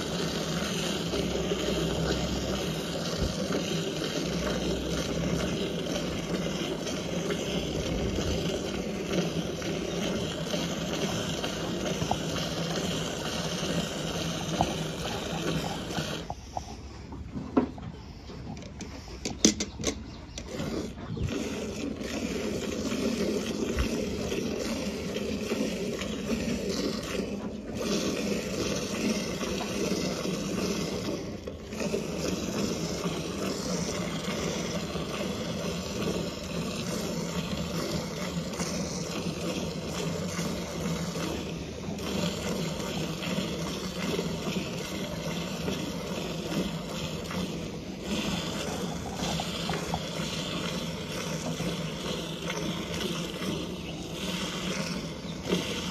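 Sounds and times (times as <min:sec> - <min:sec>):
milk squirting into a bucket: 0:00.0 - 0:16.9, 0:17.6 - 0:55.9.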